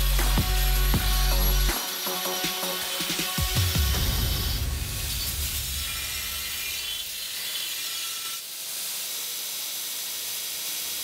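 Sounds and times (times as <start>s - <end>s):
belt grinder grinding steel: 0.0s - 11.0s.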